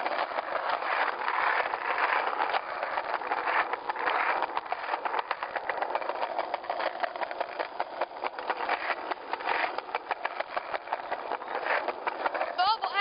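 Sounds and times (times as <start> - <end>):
handheld camera rattling: 0.1 - 13.0.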